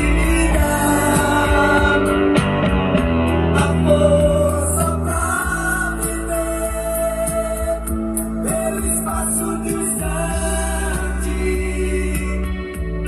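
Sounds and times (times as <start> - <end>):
person singing: 0.0 - 2.5, 3.6 - 13.0
held bass notes: 0.0 - 13.0.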